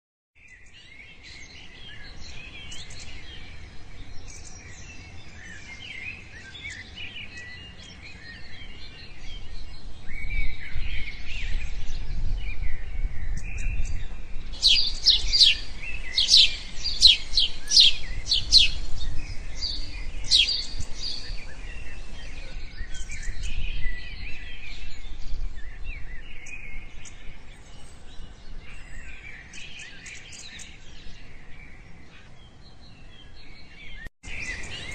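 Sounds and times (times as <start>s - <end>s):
chorus of birds chirping: 0.4s - 34.9s.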